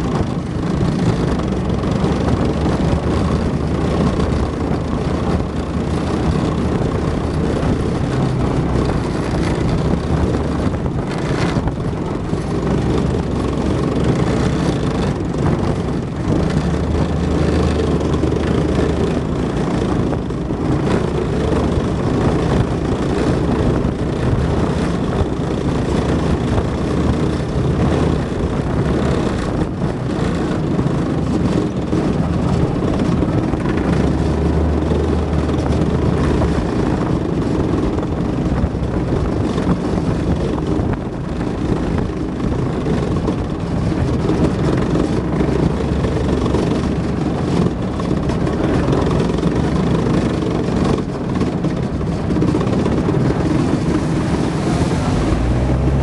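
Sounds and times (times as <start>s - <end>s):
tracked vehicle diesel engine: 0.0s - 56.0s
water splashing against hull: 0.0s - 56.0s.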